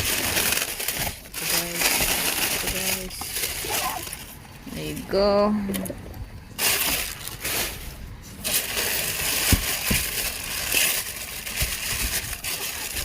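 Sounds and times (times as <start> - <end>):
paper packing rustling and crunching: 0.0 - 5.1, 6.6 - 13.0.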